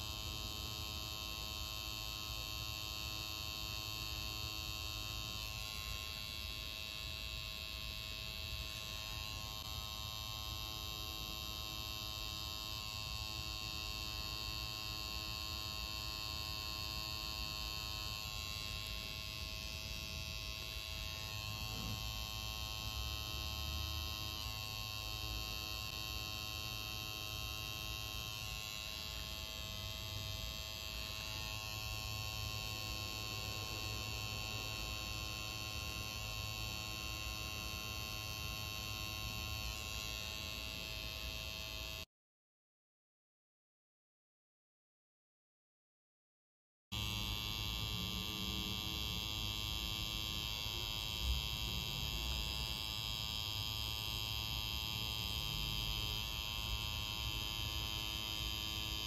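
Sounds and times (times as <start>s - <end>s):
tattoo machine buzzing: 0.0s - 42.1s, 46.9s - 59.0s.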